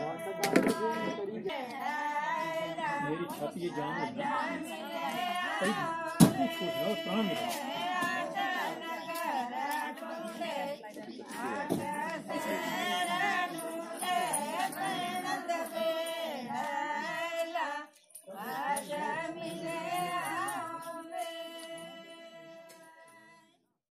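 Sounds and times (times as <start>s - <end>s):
women singing: 0.0s - 23.7s.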